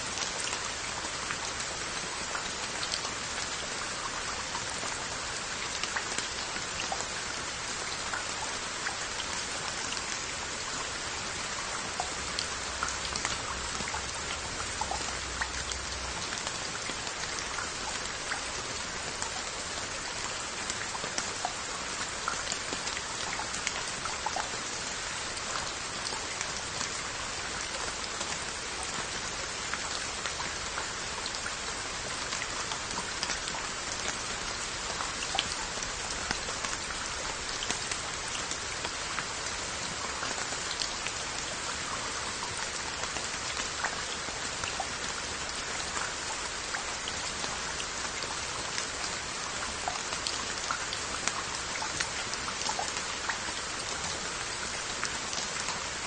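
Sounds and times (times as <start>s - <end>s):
steady rain hiss: 0.0s - 56.0s
raindrops ticking on pottery: 0.1s - 56.0s.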